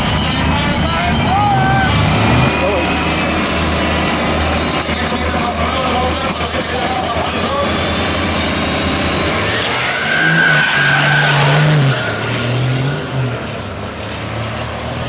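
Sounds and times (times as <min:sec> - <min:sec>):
high whine climbing in pitch: 0:00.0 - 0:14.9
truck engine accelerating hard: 0:00.0 - 0:15.0.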